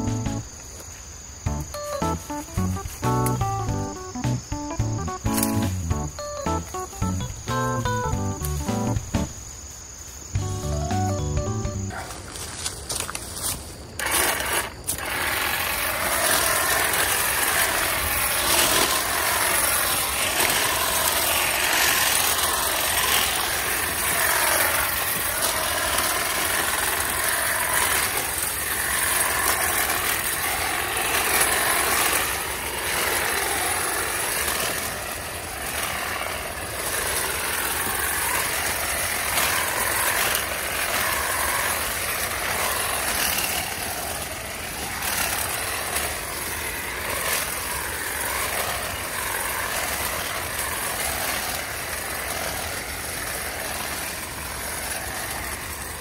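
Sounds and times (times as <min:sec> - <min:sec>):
hedge trimmer cutting: 0:01.3 - 0:09.6, 0:13.4 - 0:56.0.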